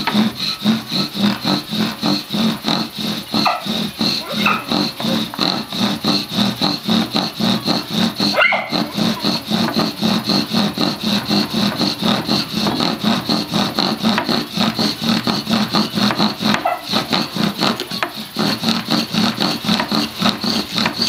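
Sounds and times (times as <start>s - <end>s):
bow drill spindle squeaking: 0.0s - 21.0s.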